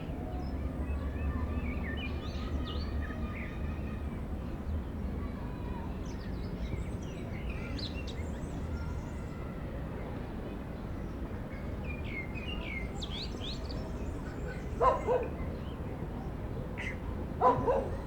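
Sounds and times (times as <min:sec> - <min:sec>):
background traffic rumble: 0:00.0 - 0:18.0.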